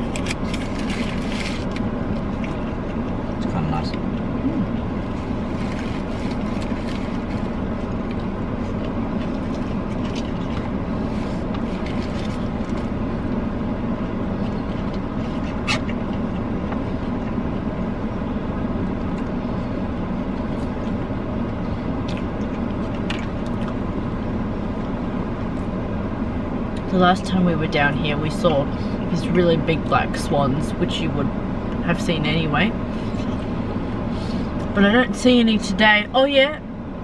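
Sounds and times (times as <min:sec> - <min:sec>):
car engine hum in cabin: 0:00.0 - 0:37.0.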